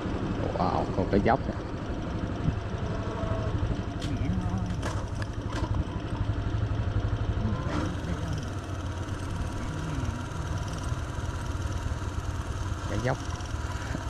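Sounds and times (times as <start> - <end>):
motorbike engine rumbling: 0.0 - 14.0.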